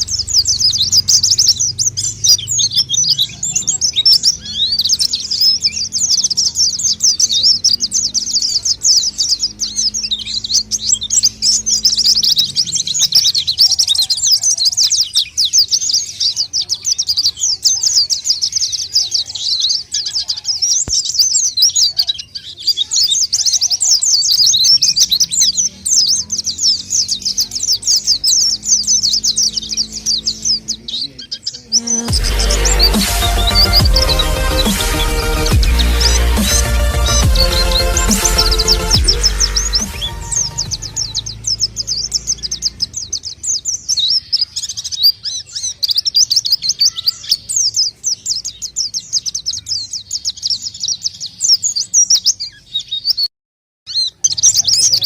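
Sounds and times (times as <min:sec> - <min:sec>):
birds twittering chirps: 0:00.0 - 0:55.0.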